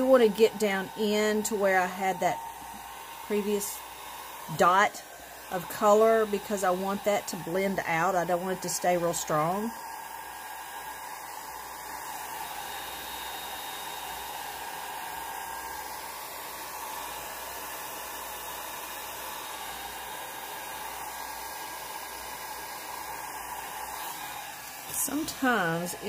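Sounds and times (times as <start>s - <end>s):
blow dryer running: 0.0s - 26.0s.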